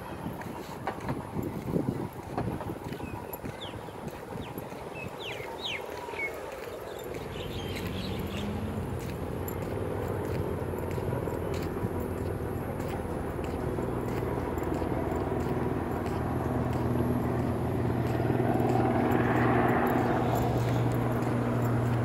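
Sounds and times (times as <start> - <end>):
helicopter flying overhead: 0.0 - 22.0.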